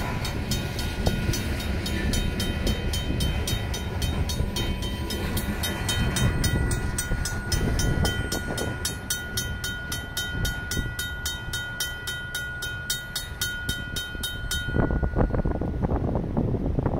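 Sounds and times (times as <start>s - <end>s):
crossing bell ringing: 0.0s - 16.2s
rail cars rumbling past: 0.0s - 16.9s.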